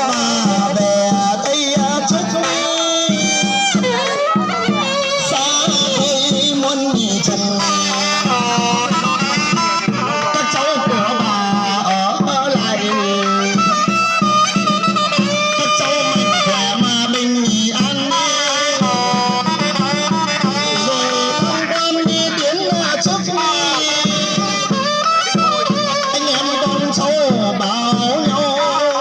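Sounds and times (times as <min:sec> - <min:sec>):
sliding ornamented melody: 0:00.0 - 0:26.6
quick drumbeats: 0:00.0 - 0:29.0.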